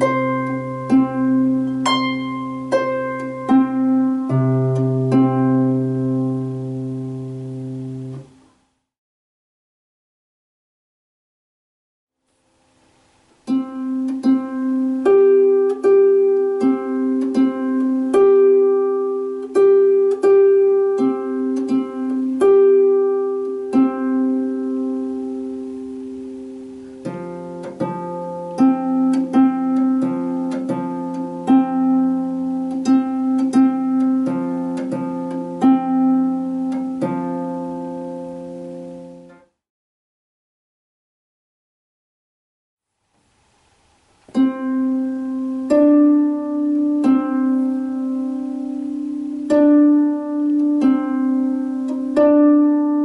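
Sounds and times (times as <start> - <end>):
harp notes plucked: 0.0 - 8.5, 13.4 - 39.5, 44.2 - 53.0.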